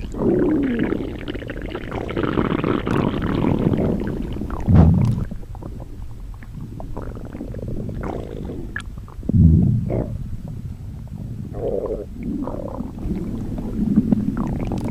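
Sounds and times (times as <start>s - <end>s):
cartoon stomach growl: 0.0s - 5.9s, 6.6s - 14.9s
faint gurgles: 0.0s - 14.9s.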